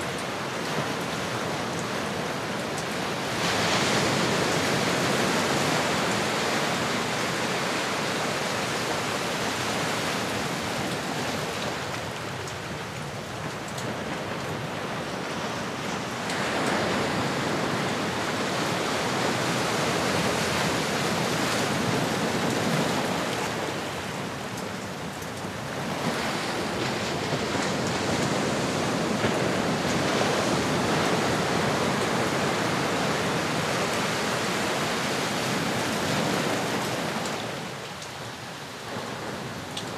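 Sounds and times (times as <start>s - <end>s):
ocean waves: 0.0s - 39.9s.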